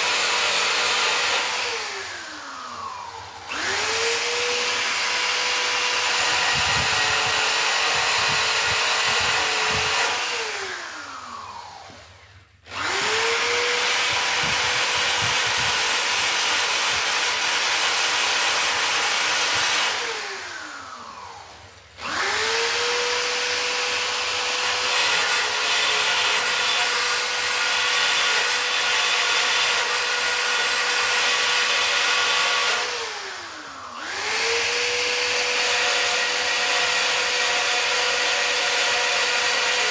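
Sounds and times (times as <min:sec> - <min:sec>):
grinder whining on steel: 0:00.0 - 0:39.9.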